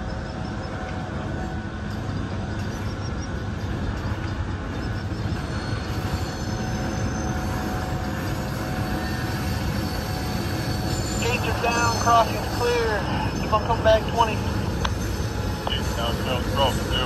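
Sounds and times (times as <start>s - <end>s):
freight train rumbling: 0.0s - 17.0s
high wheel squeal: 2.6s - 17.0s.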